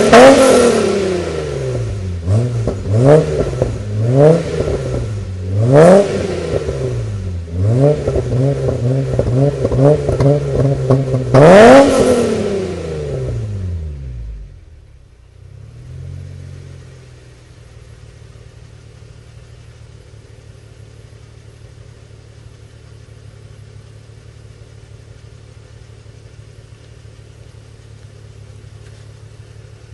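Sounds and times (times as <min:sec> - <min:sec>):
car engine revving and idling: 0:00.0 - 0:29.9.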